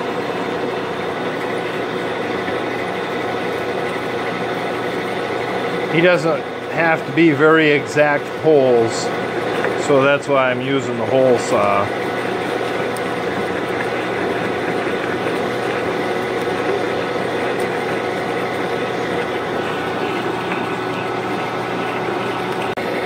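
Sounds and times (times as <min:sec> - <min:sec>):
motor hum: 0:00.0 - 0:23.0.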